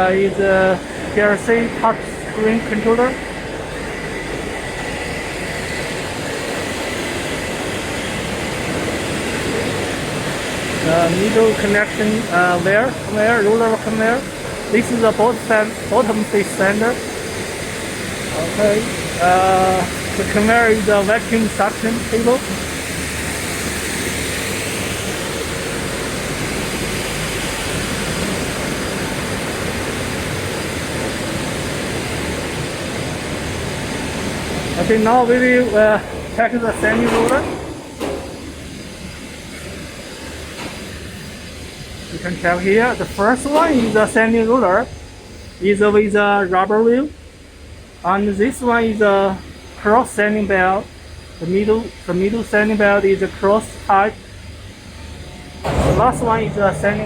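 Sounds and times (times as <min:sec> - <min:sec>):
faint high machine whines: 0:00.0 - 0:57.0.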